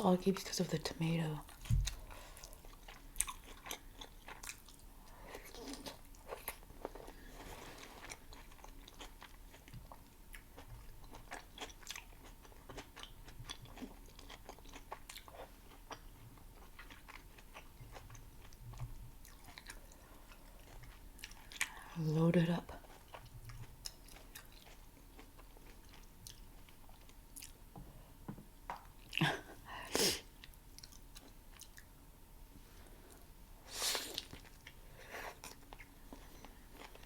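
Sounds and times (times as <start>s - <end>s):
wet chewing of food: 1.4s - 22.0s, 22.7s - 27.9s, 30.2s - 32.0s, 34.0s - 37.0s.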